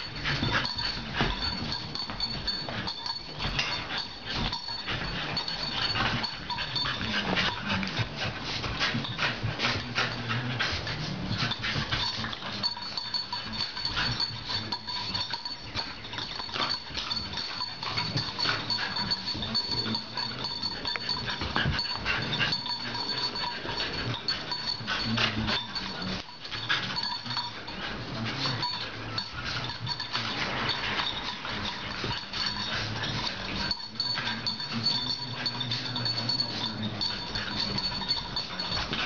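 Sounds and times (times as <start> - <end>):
puppies barking and yapping: 0.0 - 39.0.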